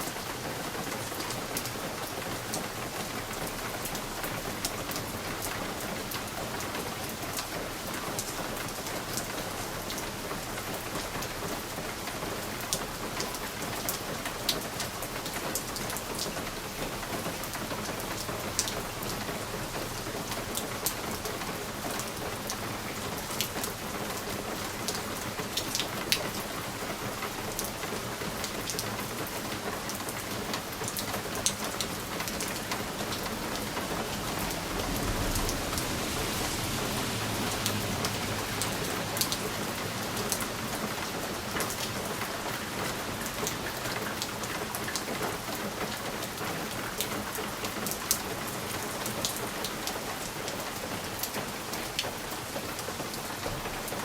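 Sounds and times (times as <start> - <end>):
rain on a window pane: 0.0 - 54.0.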